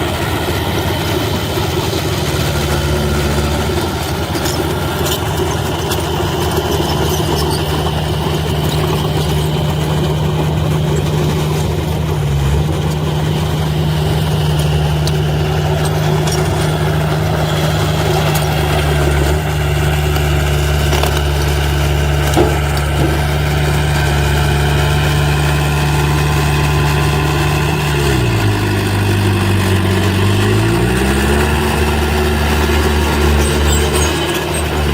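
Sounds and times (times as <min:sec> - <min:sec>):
heavy machine engine running: 0:00.0 - 0:34.9.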